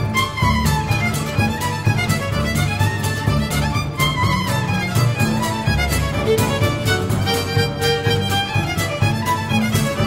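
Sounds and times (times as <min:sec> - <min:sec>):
folk dance music with fiddle: 0:00.0 - 0:10.0.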